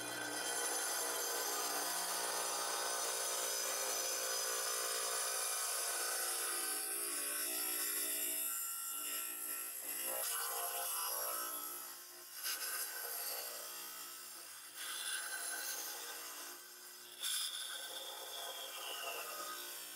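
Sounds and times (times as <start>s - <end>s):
power saw grinding stone: 0.0s - 19.9s.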